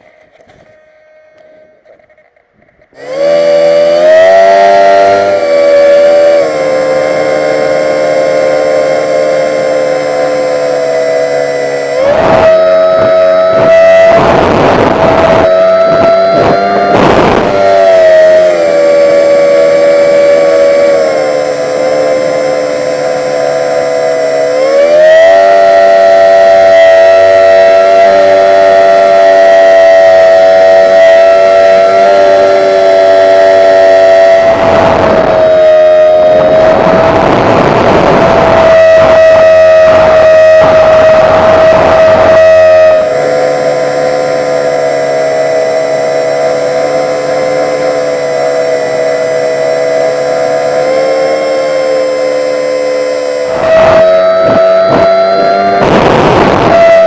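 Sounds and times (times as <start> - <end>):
electric motor and propeller whining: 0.0 - 57.0.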